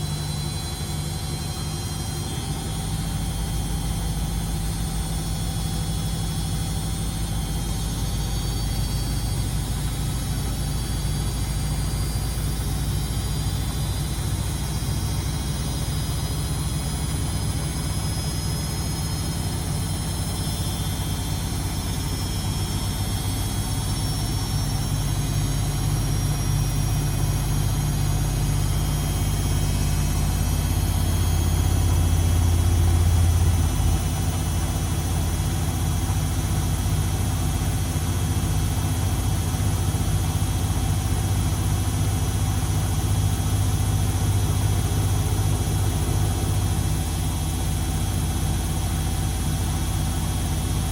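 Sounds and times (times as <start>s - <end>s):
washing machine running: 0.0s - 50.9s.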